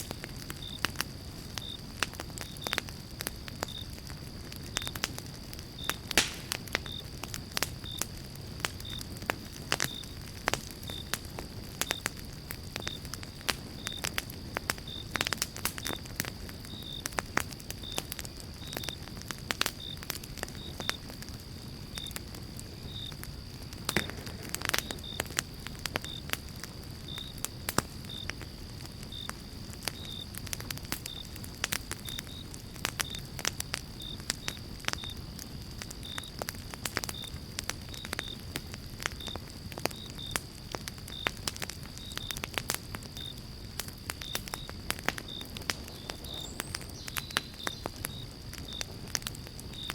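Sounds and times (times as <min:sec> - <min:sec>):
fire crackling and popping: 0:00.0 - 0:49.9
low rush of flame: 0:00.0 - 0:49.9.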